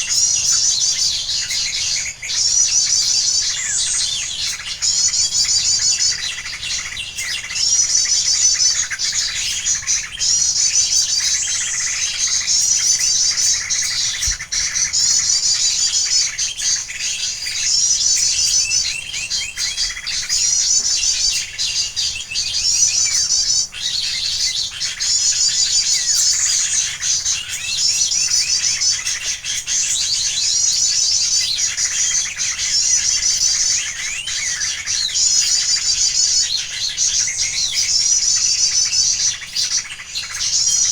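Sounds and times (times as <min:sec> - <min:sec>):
high rapid bird twittering: 0:00.0 - 0:40.9
lower-pitched birds calling: 0:00.0 - 0:40.9.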